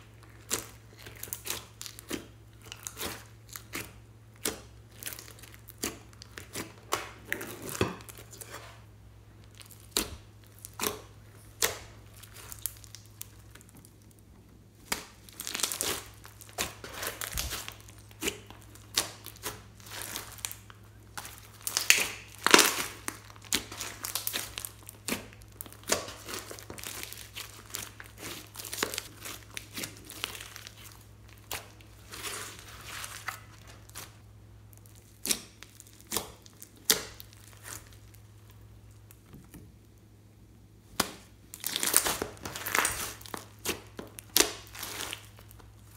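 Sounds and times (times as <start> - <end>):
slime squelching and crackling: 0.0 - 40.2, 40.8 - 45.9.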